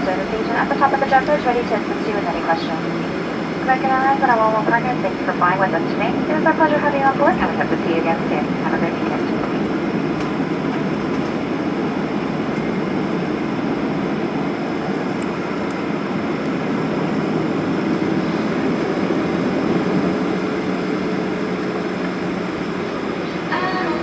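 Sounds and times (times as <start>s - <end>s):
airplane cabin engine noise: 0.0s - 24.0s.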